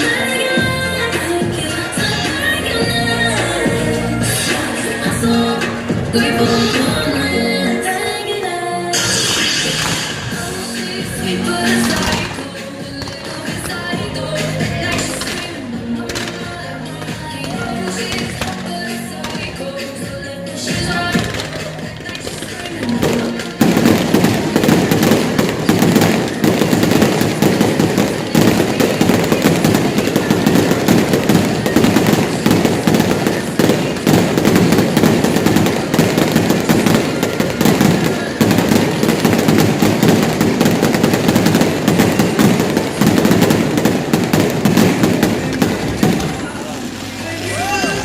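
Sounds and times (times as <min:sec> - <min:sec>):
fireworks bangs and crackles: 0:00.0 - 0:07.2, 0:08.9 - 0:48.0.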